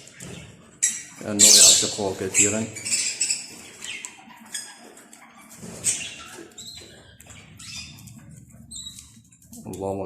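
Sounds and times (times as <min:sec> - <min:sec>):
budgerigars chirping: 0:00.0 - 0:09.3.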